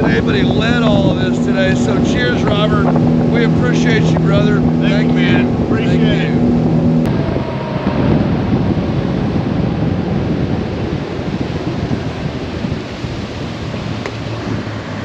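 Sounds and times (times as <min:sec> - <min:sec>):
water rushing in boat wake: 0:00.0 - 0:15.0
wind buffeting microphone: 0:00.0 - 0:15.0.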